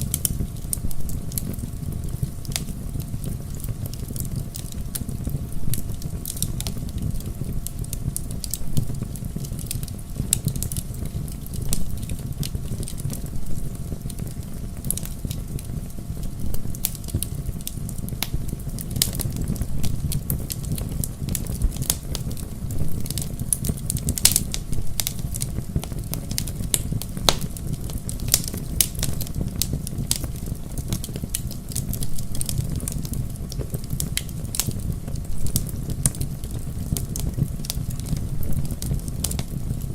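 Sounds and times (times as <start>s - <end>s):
bonfire flames roaring: 0.0s - 39.9s
burning logs popping and crackling: 0.0s - 39.9s.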